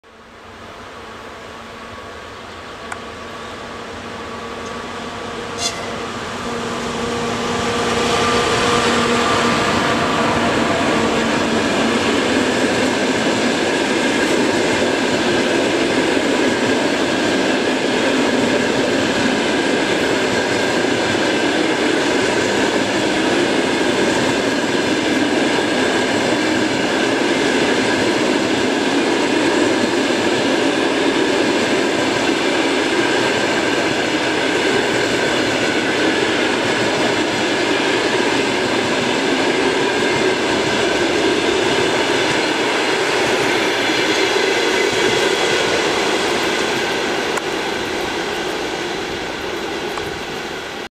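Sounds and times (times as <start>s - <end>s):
electric locomotive humming: 0.0s - 50.9s
train wheels rumbling on rails: 0.6s - 50.9s.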